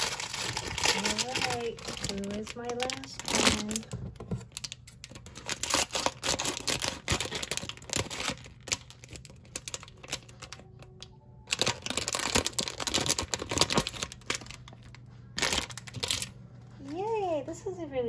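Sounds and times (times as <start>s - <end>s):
foil bag crinkling: 0.0s - 17.1s.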